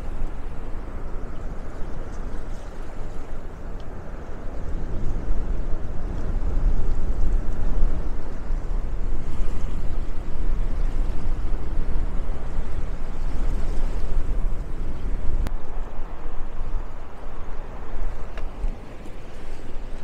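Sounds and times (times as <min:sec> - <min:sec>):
low rumbling outdoor noise: 0:00.0 - 0:20.0.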